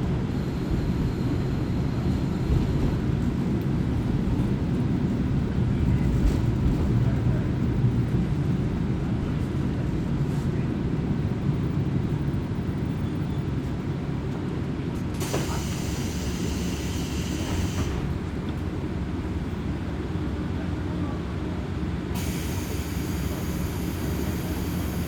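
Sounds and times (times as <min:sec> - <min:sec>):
train engine and wheels rumbling: 0:00.0 - 0:25.0.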